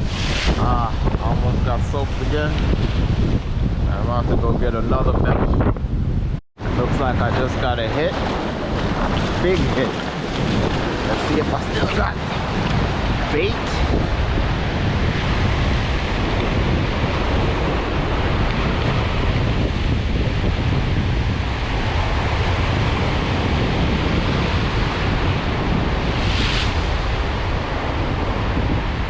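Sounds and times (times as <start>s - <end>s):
surf washing on shore: 0.0s - 29.0s
wind buffeting microphone: 0.0s - 29.0s.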